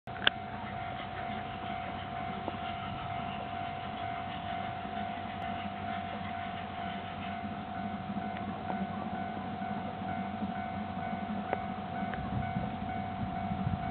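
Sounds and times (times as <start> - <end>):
low steady rumble: 0.1 - 13.9.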